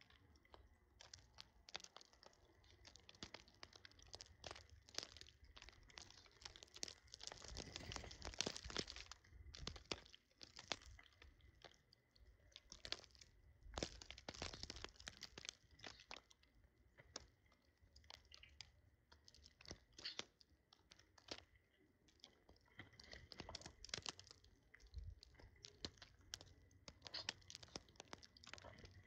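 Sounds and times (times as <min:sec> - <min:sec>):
birds pecking and cracking seed: 0:00.0 - 0:29.0.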